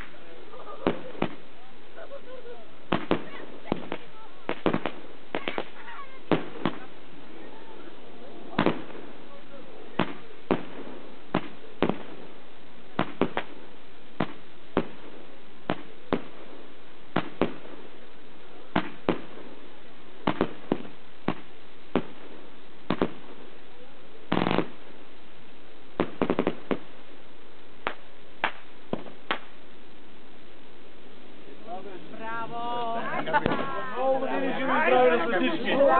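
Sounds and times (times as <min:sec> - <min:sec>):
fireworks bangs: 0:00.0 - 0:25.1, 0:25.9 - 0:27.2, 0:27.8 - 0:29.9, 0:31.4 - 0:35.9
fireworks crackle: 0:00.0 - 0:35.9.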